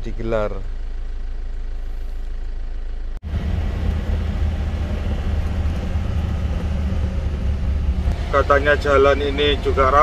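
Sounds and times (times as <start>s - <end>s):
diesel engine running: 0.0s - 10.0s
road noise: 0.0s - 10.0s.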